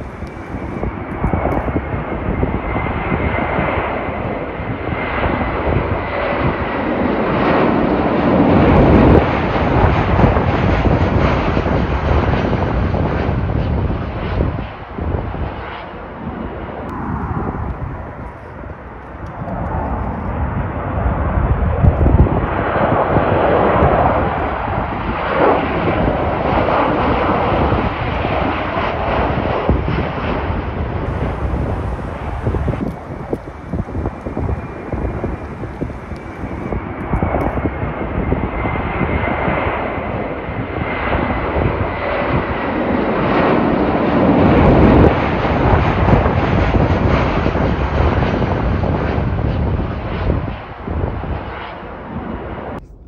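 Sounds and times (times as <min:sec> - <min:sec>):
jet engine roar overhead: 0:00.0 - 0:53.0.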